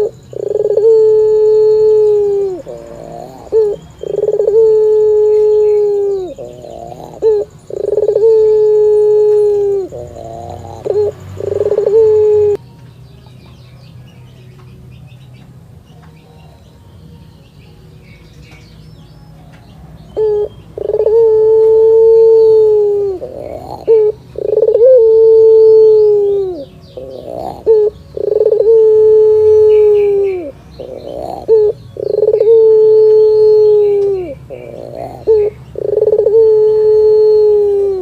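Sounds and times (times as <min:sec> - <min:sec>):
dove cooing with rolling trill: 0:00.0 - 0:12.6, 0:19.6 - 0:38.0.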